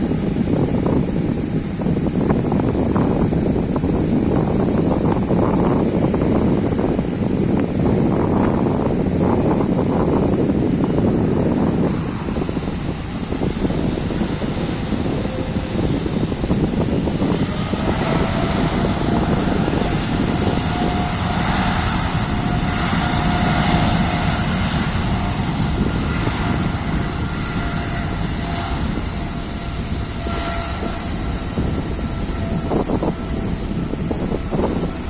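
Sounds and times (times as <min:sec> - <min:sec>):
aircraft engines taking off: 0:00.0 - 0:35.0.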